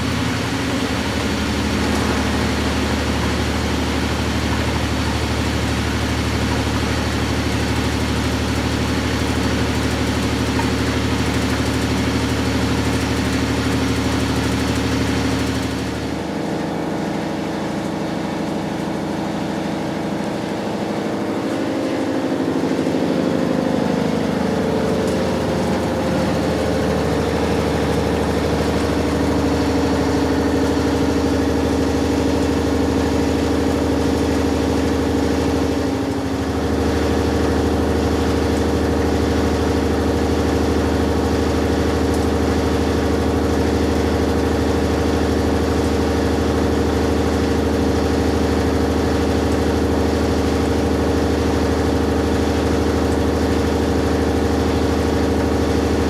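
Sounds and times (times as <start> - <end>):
washing machine running: 0.0 - 56.0.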